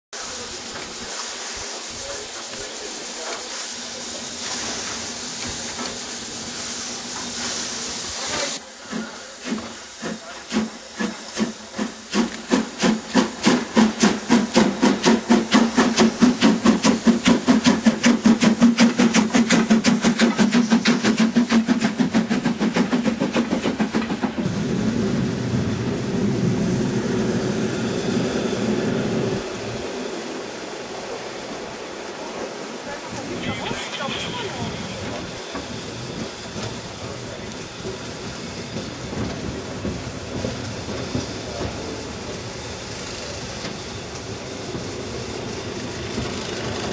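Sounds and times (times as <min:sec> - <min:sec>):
steam hissing: 0:00.2 - 0:46.9
steam locomotive chuffing: 0:00.2 - 0:46.9.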